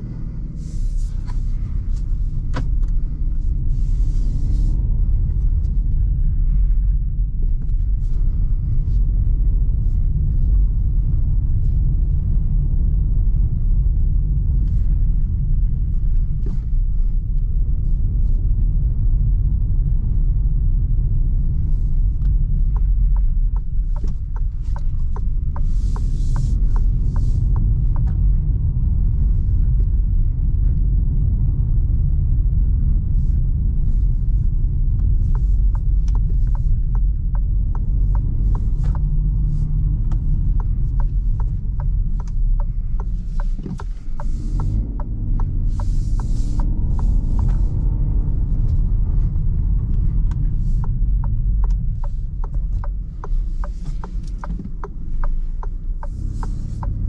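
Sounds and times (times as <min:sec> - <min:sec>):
car cabin engine and tyre rumble: 0:00.0 - 0:57.0.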